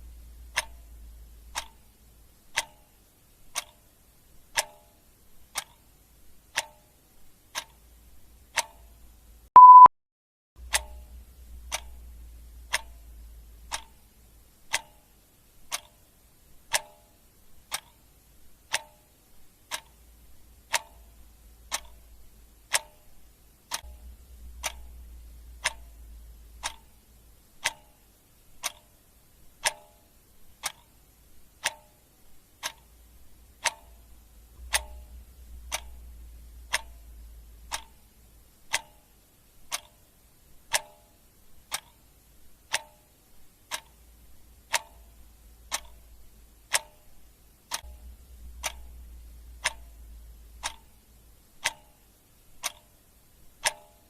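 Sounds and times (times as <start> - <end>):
clock ticking: 0.0 - 9.9, 10.6 - 54.0.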